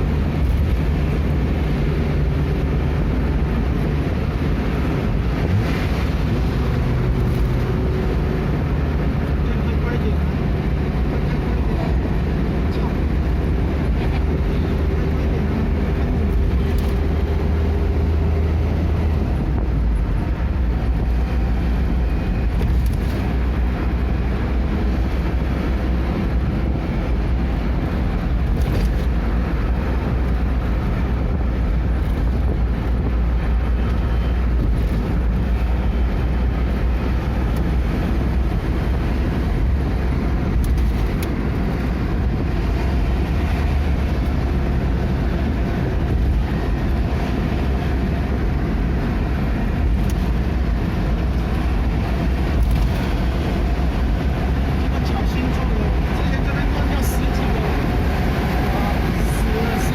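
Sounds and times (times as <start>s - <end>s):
moving vehicle rumble: 0.0s - 59.9s
road noise: 0.0s - 59.9s.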